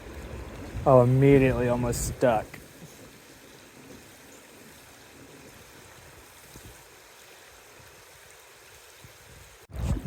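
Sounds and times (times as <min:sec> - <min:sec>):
creek water over rocks: 0:00.0 - 0:10.0.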